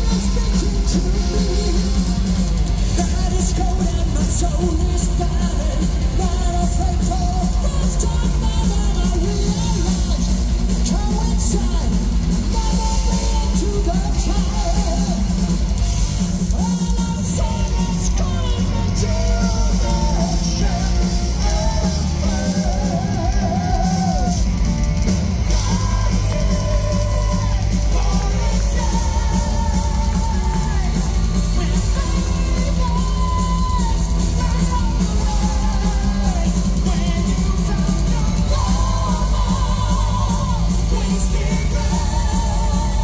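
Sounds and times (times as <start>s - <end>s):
man singing lead vocal: 0.0s - 24.8s, 25.4s - 43.0s
live metal band playing: 0.0s - 43.0s.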